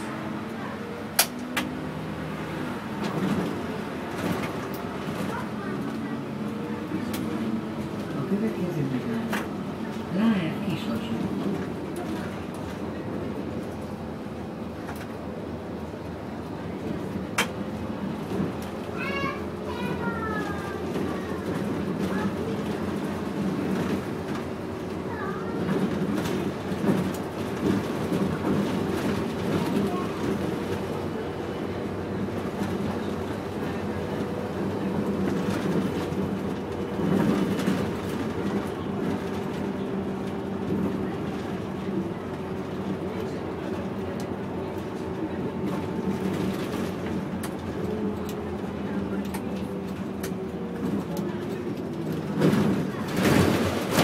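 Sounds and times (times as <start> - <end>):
bus engine drone: 0.0 - 54.0
road and rolling noise: 0.0 - 54.0.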